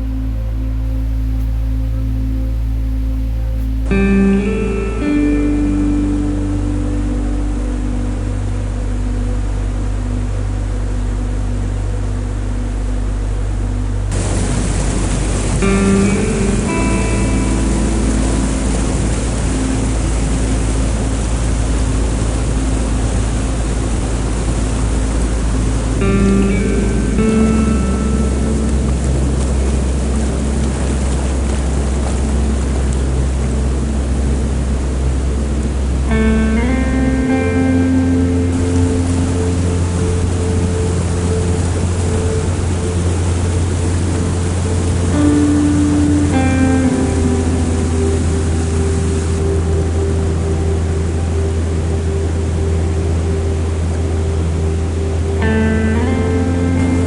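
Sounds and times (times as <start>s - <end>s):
faint held music notes: 0.0s - 57.0s
waterfall rushing: 0.0s - 57.0s.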